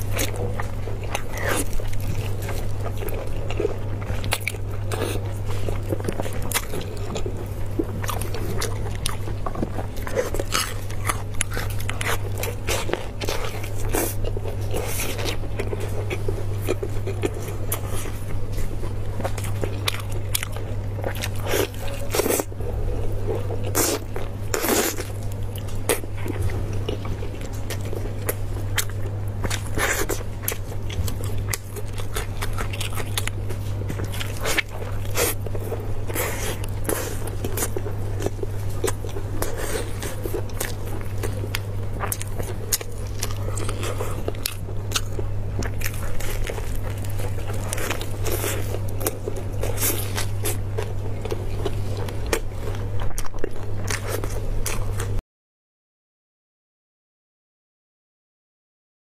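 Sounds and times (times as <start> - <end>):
chewing with wet mouth smacks: 0.0 - 55.2
steady low hum: 0.0 - 55.2.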